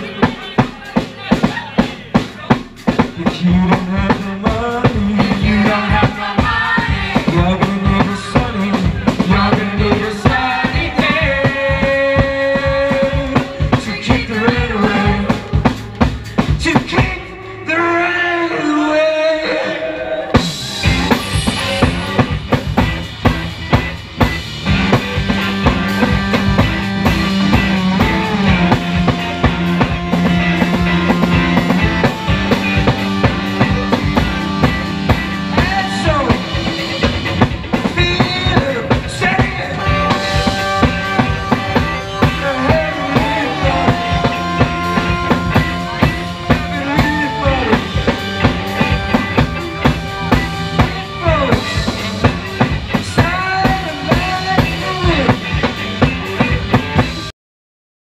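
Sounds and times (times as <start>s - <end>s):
drum kit beat: 0.0s - 17.6s, 20.3s - 57.3s
live band playing indie-pop: 0.0s - 57.3s.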